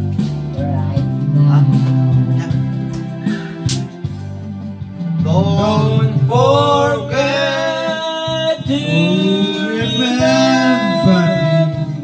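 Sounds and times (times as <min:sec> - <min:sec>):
song with singing voice: 0:00.3 - 0:12.0.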